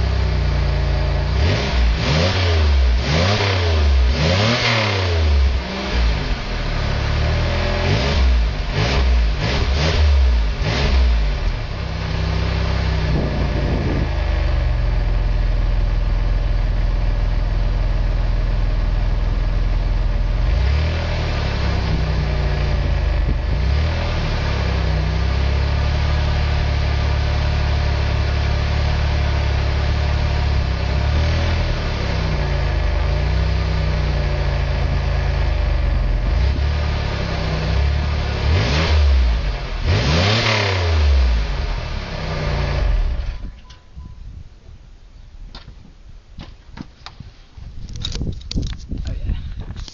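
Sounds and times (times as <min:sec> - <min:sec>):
car engine revving: 0:00.0 - 0:16.9, 0:17.7 - 0:43.4
car engine idling: 0:00.0 - 0:40.1.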